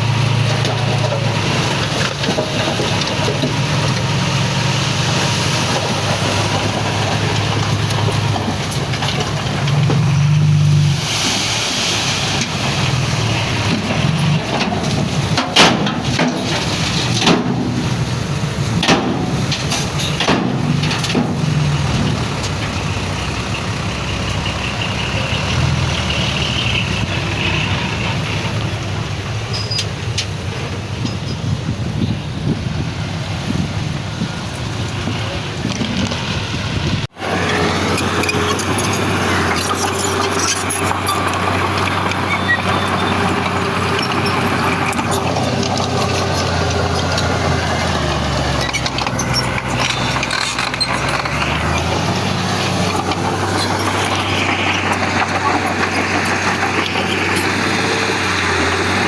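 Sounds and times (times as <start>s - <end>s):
diesel machinery running: 0.0s - 59.0s.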